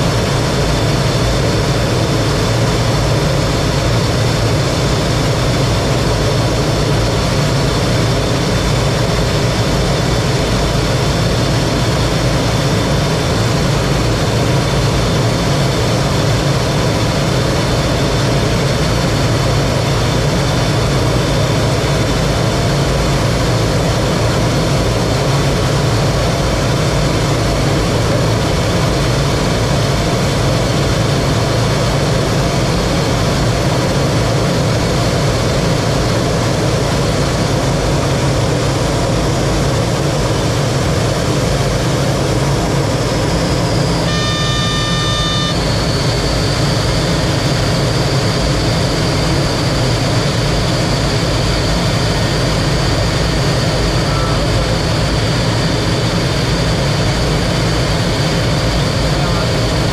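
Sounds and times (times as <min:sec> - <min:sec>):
jet engine cockpit rumble: 0:00.0 - 0:59.9.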